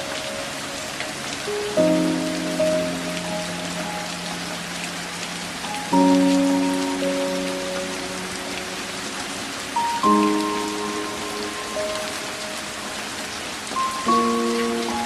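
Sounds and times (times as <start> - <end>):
rain on a window: 0.0 - 15.0
soft slow music: 0.0 - 15.0.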